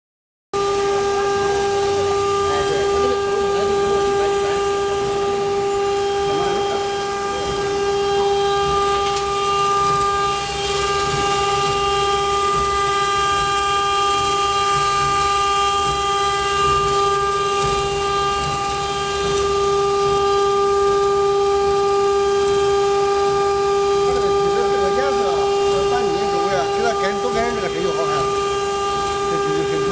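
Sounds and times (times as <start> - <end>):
machine rumble and hiss: 0.6 - 29.9
router spindle high whine: 0.6 - 29.9.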